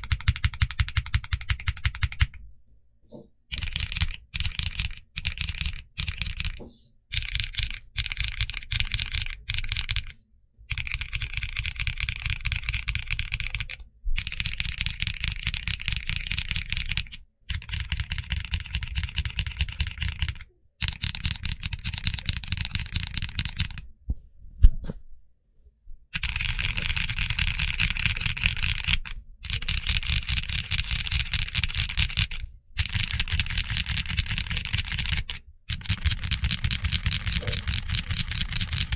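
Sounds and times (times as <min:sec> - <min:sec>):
mechanical keyboard typing: 0:00.0 - 0:02.4, 0:03.5 - 0:23.9, 0:26.2 - 0:38.9.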